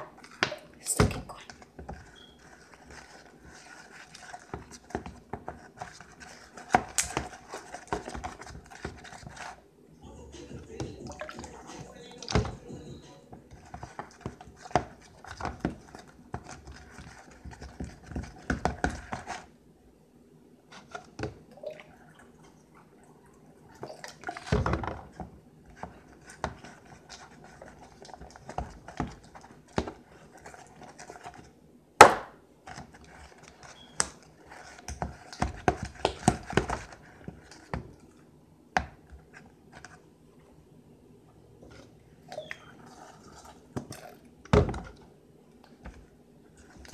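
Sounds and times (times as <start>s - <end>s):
spoon stirring slime in a bowl: 0.0s - 9.7s, 10.4s - 19.6s, 20.7s - 31.7s, 32.6s - 40.1s, 41.4s - 46.9s.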